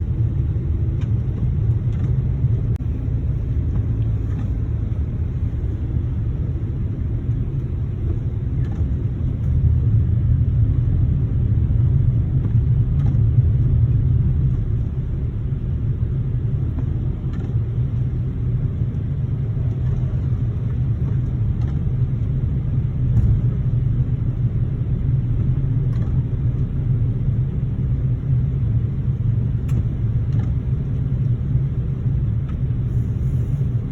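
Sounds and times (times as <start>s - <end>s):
car engine rumble: 0.0s - 33.9s
tyres on road: 0.0s - 33.9s.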